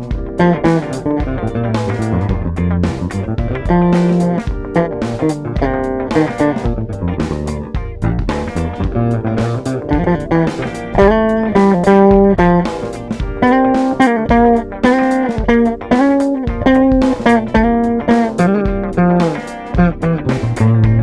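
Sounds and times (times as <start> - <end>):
plucked bass guitar notes: 0.0 - 21.0.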